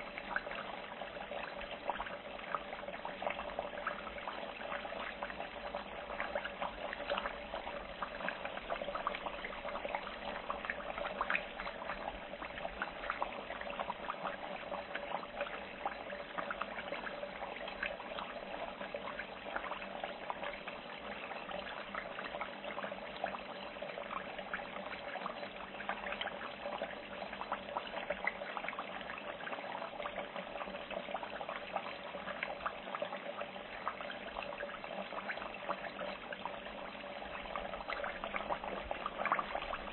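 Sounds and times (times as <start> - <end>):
food frying in hot oil: 0.0 - 39.9.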